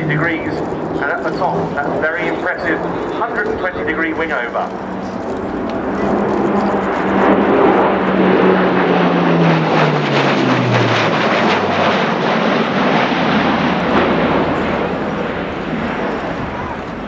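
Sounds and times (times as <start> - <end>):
propeller tone: 0.0 - 17.0
rushing engine noise: 0.0 - 17.0.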